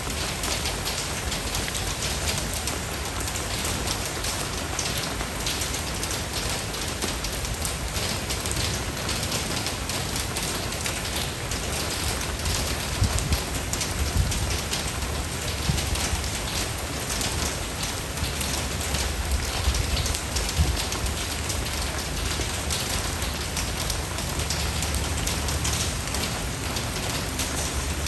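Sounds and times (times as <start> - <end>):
rain patter: 0.0 - 28.0.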